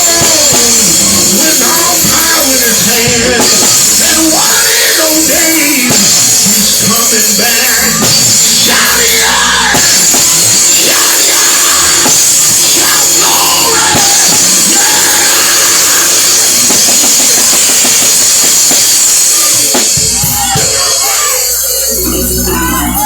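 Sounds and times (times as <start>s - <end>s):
person preaching: 0.0s - 18.2s, 19.4s - 23.0s
drum kit playing: 0.0s - 23.0s
live church band music: 0.0s - 23.0s.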